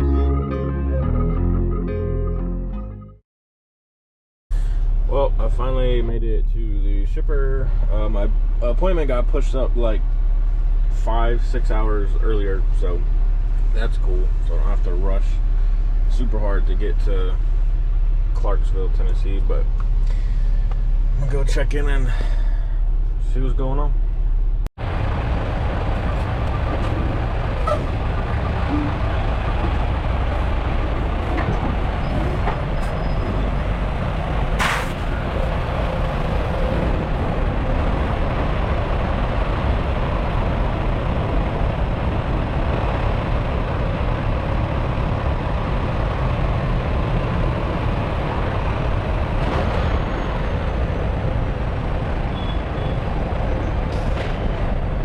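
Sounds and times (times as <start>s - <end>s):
truck engine rumbling: 4.5s - 55.0s.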